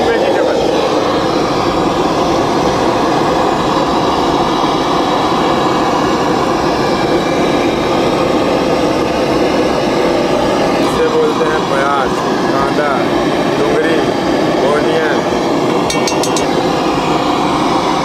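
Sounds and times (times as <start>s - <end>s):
gas burner roaring: 0.0s - 18.0s.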